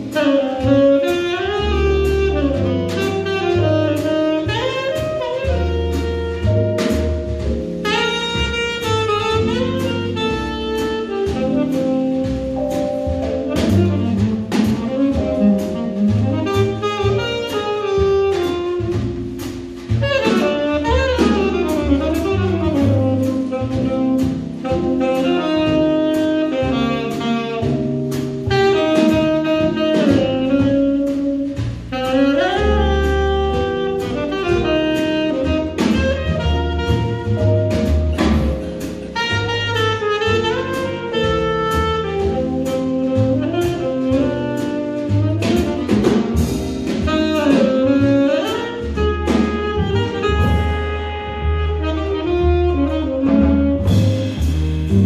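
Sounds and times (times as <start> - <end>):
drum kit with cymbals: 0.0 - 55.0
piano: 0.0 - 55.0
saxophone melody: 0.0 - 55.0
walking double bass: 0.0 - 55.0.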